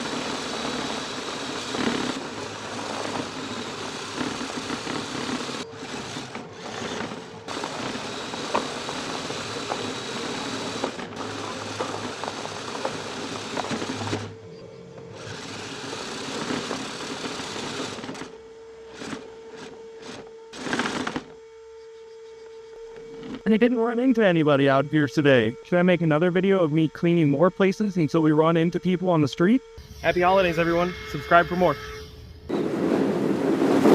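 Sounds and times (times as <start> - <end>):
small electric motor whirring: 0.0 - 32.6.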